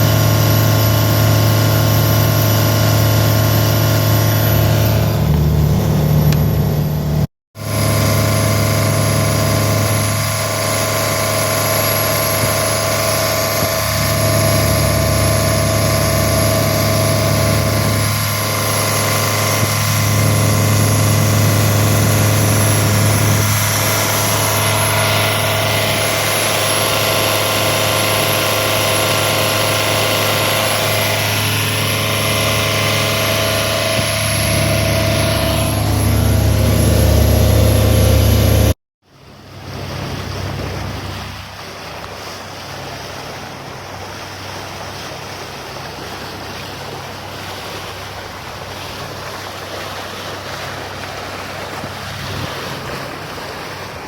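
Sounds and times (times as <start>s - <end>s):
marine diesel engine droning: 0.0s - 54.0s.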